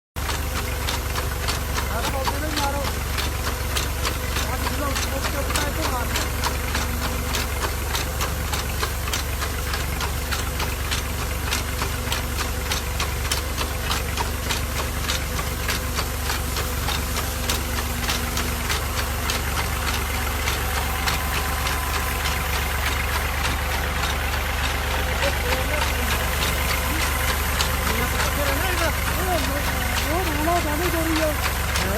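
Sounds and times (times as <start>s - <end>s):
quick regular clicking: 0.2s - 31.9s
tractor engine running: 0.2s - 31.9s
sprayer hiss: 0.7s - 31.9s.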